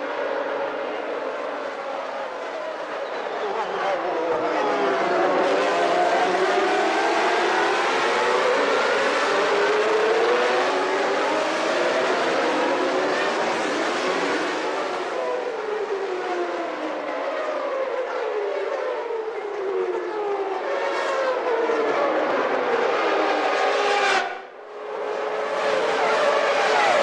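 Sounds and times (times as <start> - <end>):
racing car engines at high revs: 0.0 - 27.0.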